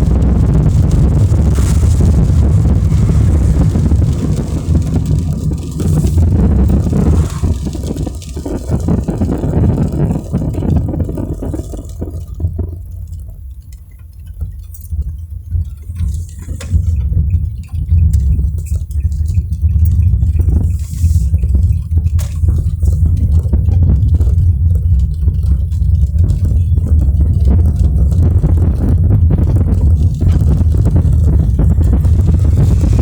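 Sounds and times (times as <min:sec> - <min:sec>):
rain and wet tyres hissing: 0:00.0 - 0:13.1, 0:15.7 - 0:17.0, 0:20.2 - 0:33.0
road and engine rumble: 0:00.0 - 0:33.0
ticks: 0:00.0 - 0:33.0.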